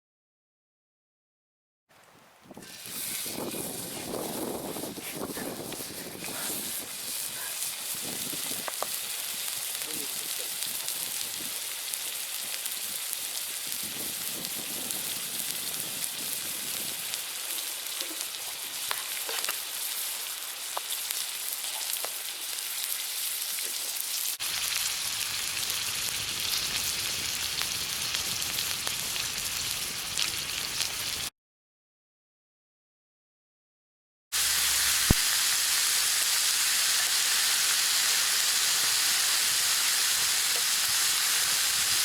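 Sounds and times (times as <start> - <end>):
faint fire crackles: 1.9 - 31.3, 34.4 - 42.0
meat sizzling: 2.6 - 31.3, 34.4 - 42.0.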